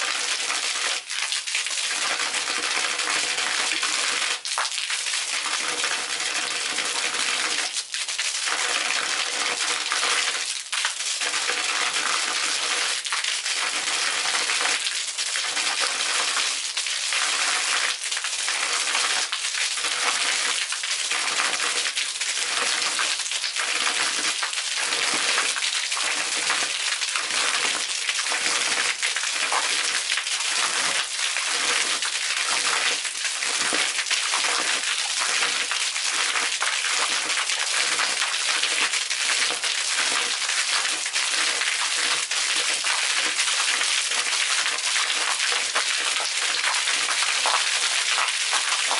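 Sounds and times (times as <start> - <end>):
water splattering on concrete: 0.0 - 48.9.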